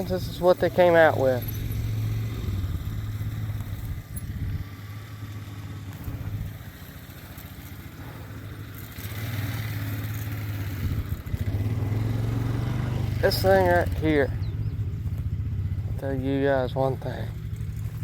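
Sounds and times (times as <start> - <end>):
engine running with low throb: 0.0 - 18.0.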